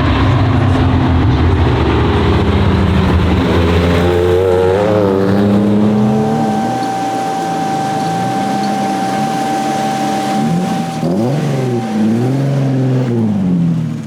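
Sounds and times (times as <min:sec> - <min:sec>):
thin steady whine: 0:00.0 - 0:13.8
car engine revving: 0:00.0 - 0:14.0.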